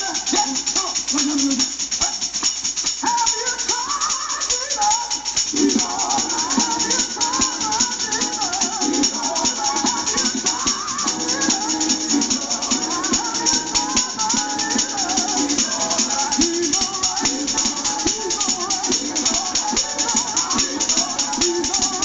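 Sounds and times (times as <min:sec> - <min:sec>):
recorded gospel song with singing: 0:00.0 - 0:22.0
tambourine jingling: 0:00.0 - 0:22.0.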